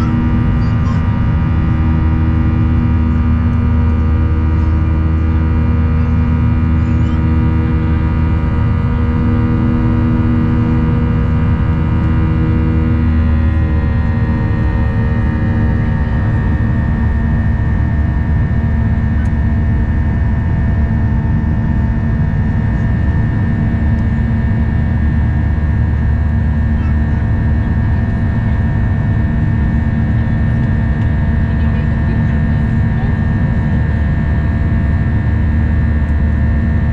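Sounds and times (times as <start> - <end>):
jet engine cabin drone: 0.0 - 36.9.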